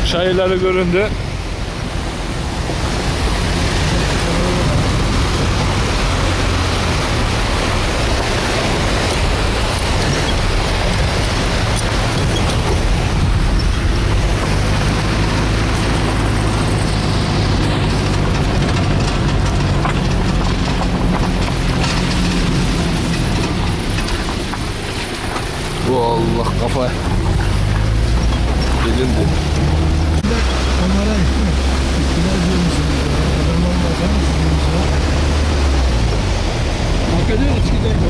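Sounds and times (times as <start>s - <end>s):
tyre and wind noise: 0.0s - 30.8s
car engine hum: 0.0s - 38.0s.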